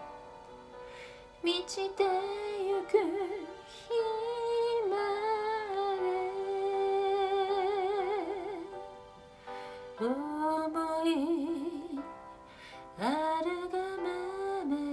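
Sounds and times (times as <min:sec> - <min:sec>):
woman singing slow melody: 0:01.4 - 0:09.1, 0:09.9 - 0:14.9.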